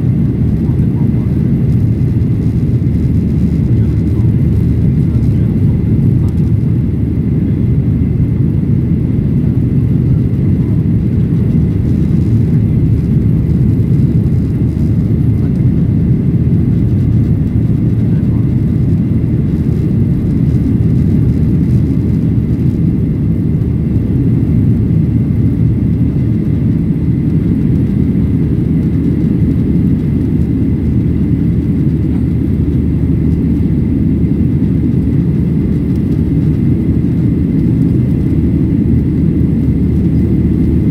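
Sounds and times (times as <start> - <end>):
jet engine low rumble: 0.0 - 40.9.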